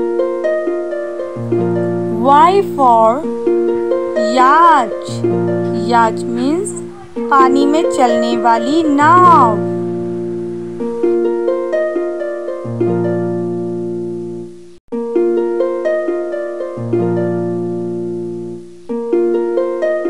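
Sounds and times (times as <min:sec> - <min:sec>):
harp-like plucked string music: 0:00.0 - 0:20.0.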